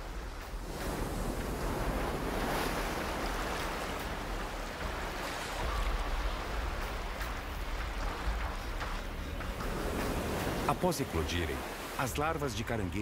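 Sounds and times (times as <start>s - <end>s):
sea waves washing over rocks: 0.0s - 12.8s.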